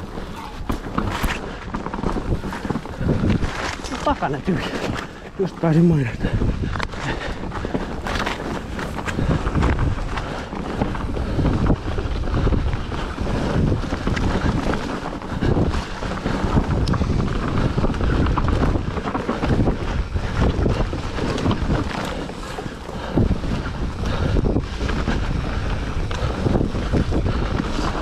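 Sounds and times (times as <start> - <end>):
bike rattles and knocks: 0.0 - 28.0
tyres rolling over dirt: 0.0 - 28.0
wind rushing over microphone: 0.0 - 28.0.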